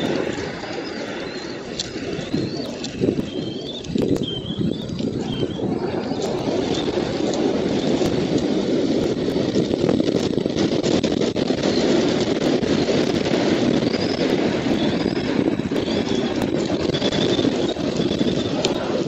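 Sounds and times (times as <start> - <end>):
wind rumble: 0.0 - 19.0.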